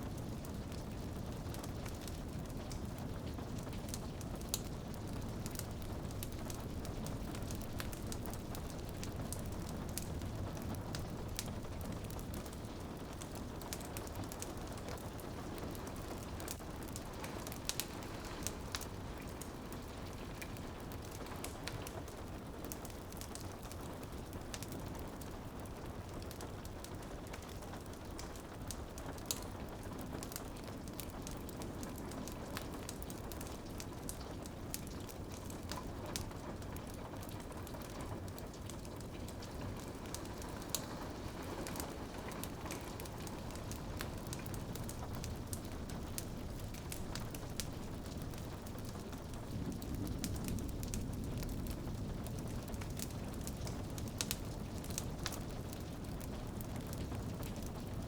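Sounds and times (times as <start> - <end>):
rain on a window pane: 0.0 - 58.0
wood fire crackling and popping: 0.0 - 58.0.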